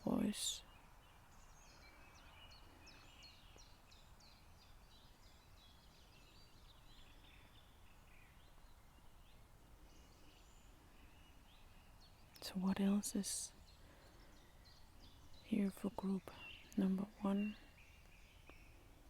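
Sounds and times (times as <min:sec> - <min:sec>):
birds chirping and trilling: 0:00.0 - 0:19.0
faint low background hum: 0:00.0 - 0:19.0.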